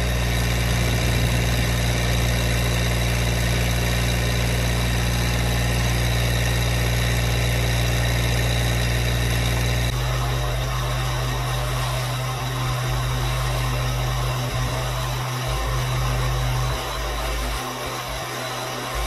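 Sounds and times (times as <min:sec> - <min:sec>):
backhoe digging: 0:00.0 - 0:19.0
tractor diesel engine running: 0:00.0 - 0:19.0.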